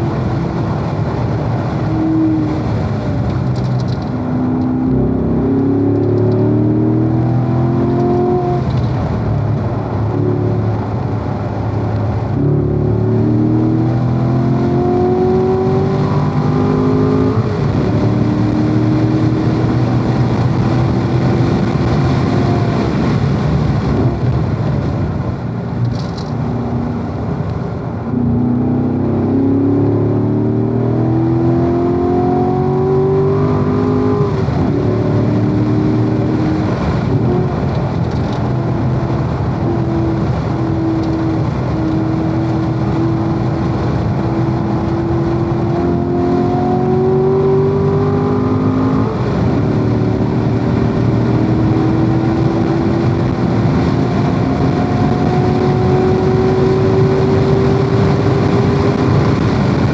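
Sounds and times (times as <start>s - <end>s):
car engine accelerating hard: 0.0s - 59.9s
wind and tyre noise: 0.0s - 59.9s.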